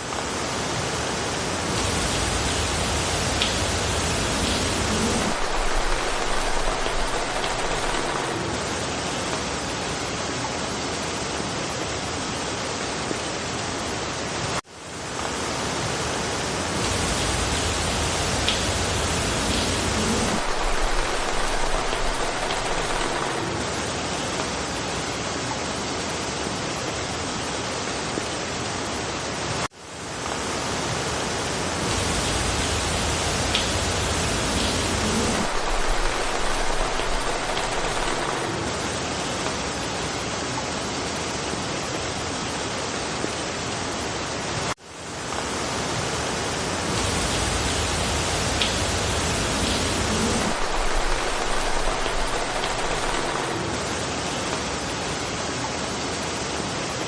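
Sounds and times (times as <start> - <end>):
rain falling through foliage: 0.0 - 57.0.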